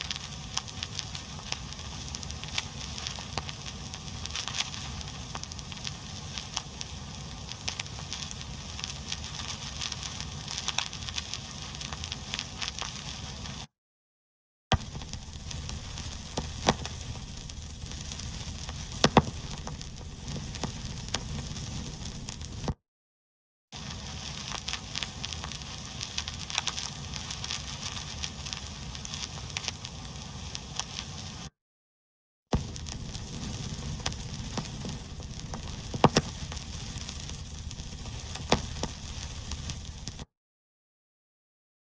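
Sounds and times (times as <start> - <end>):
vinyl hiss and crackle: 0.0 - 13.7, 14.7 - 22.8, 23.8 - 31.5, 32.5 - 40.3
vinyl sharp pops: 0.0 - 13.7, 14.7 - 22.8, 23.8 - 31.5, 32.5 - 40.3.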